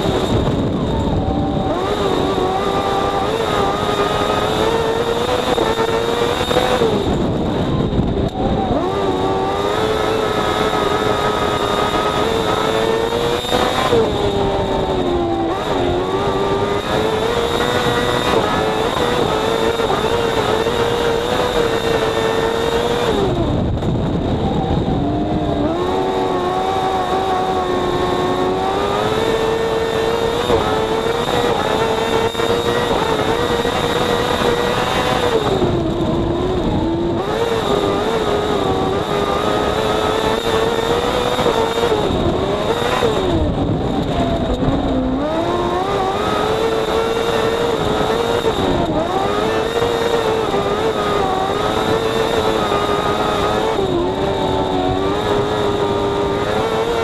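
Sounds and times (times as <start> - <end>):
dirt track noise: 0.0 - 57.0
motorcycle engine racing at high revs: 0.0 - 57.0
wind noise: 0.0 - 57.0.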